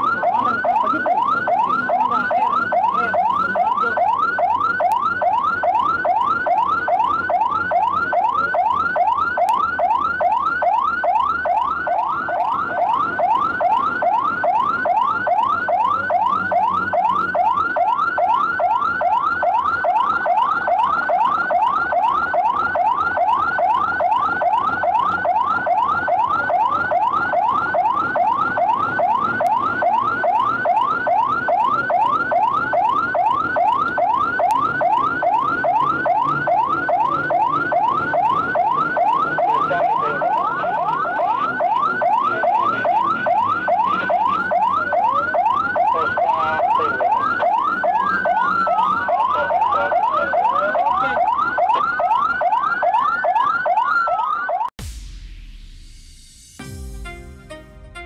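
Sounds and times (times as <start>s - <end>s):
emergency siren yelping: 0.0s - 55.0s.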